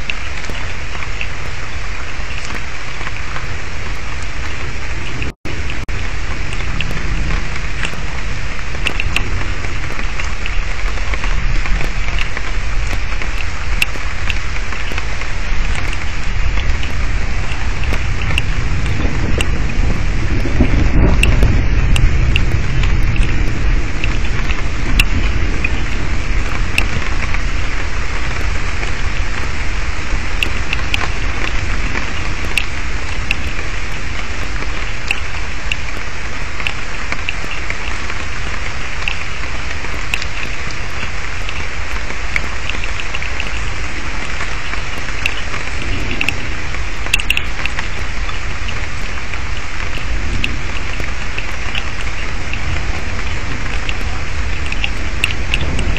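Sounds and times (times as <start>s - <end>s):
heavy rain: 0.0s - 55.9s
low thunder rumble: 0.0s - 55.9s
raindrop ticks: 0.0s - 55.9s.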